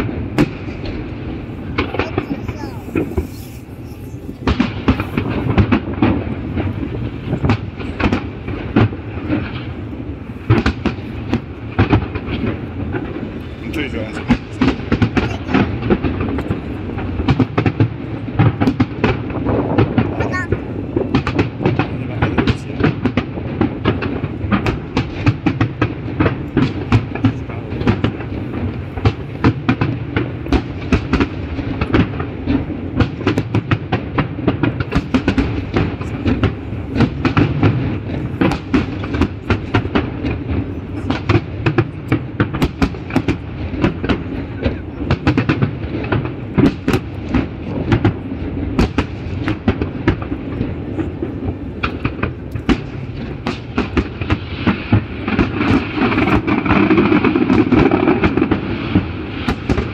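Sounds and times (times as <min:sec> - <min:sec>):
continuous fireworks rumble: 0:00.0 - 0:59.9
fireworks bangs and crackles: 0:00.0 - 0:59.9.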